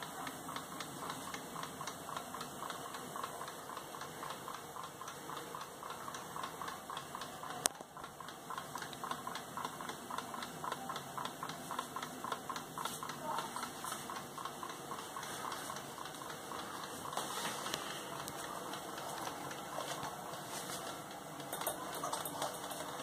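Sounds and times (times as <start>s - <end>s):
pendulum clock ticking: 0.0s - 23.0s.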